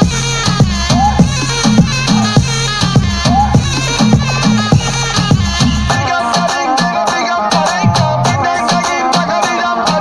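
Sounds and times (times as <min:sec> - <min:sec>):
loud music with percussive beat: 0:00.0 - 0:10.0.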